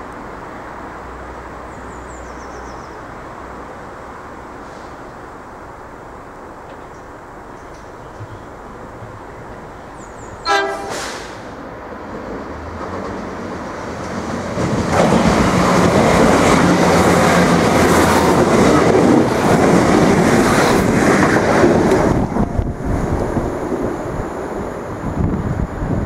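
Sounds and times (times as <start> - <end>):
train wheels rumbling on rails: 3.2 - 26.0.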